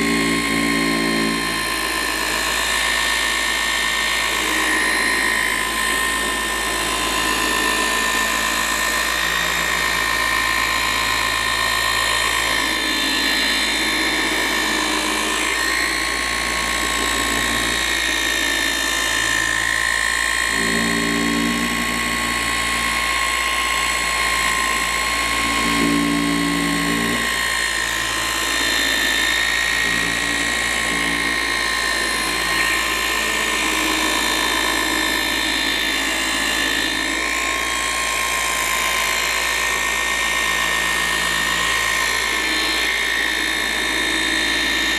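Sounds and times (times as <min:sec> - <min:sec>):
lower droning: 0:00.0 - 0:44.9
machine polisher high-pitched whine: 0:00.0 - 0:44.9.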